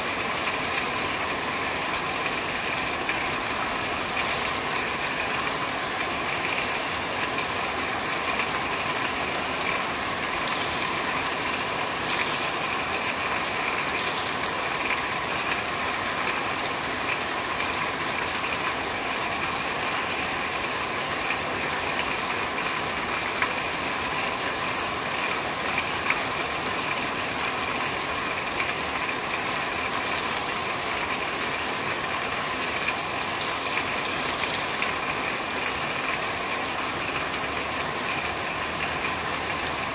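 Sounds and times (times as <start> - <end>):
rain on a corrugated roof: 0.0 - 39.9.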